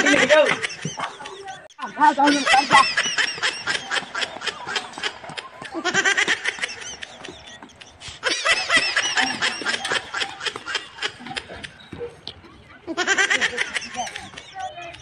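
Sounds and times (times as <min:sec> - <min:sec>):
high-pitched rapid laughter: 0:00.0 - 0:11.8, 0:12.8 - 0:15.0.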